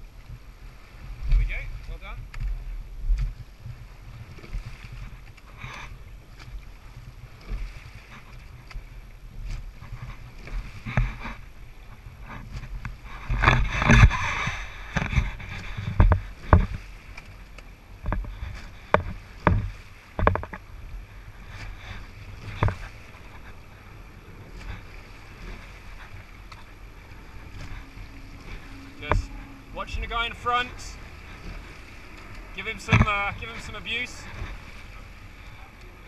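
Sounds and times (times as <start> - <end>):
steady wash of water: 0.0 - 36.0.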